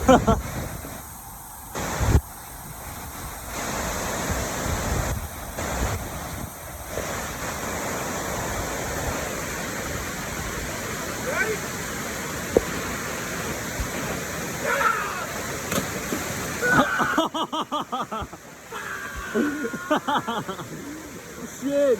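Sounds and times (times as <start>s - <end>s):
waterfall rushing hiss: 0.0s - 21.9s.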